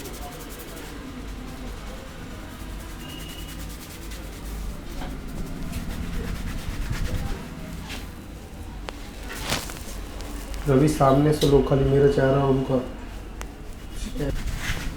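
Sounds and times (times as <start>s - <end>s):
hands rubbing and patting hair: 0.0s - 11.6s, 12.6s - 14.9s.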